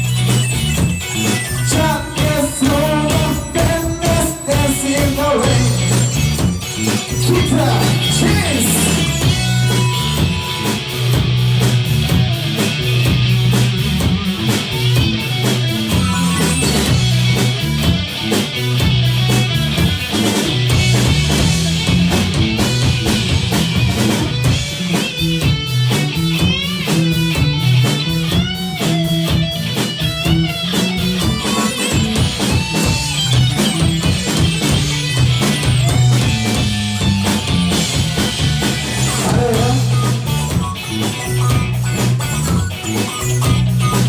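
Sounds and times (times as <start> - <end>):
bass guitar: 0.0 - 44.0
drum kit steady beat: 0.0 - 44.0
electric guitar lead: 0.0 - 44.0.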